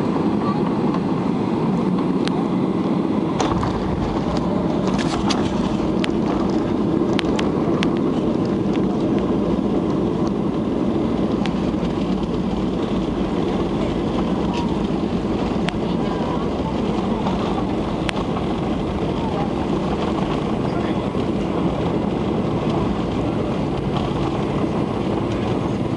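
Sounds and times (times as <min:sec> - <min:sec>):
jet engines and rushing air: 0:00.0 - 0:25.9.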